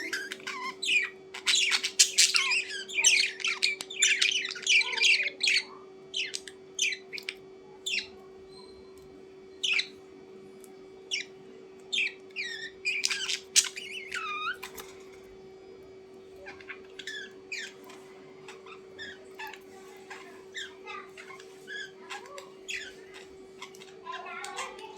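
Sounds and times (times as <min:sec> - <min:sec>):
bird chirping and squawking: 0:00.0 - 0:08.8, 0:09.5 - 0:10.0, 0:11.1 - 0:15.0, 0:16.4 - 0:24.9
faint steady hum: 0:00.0 - 0:24.9.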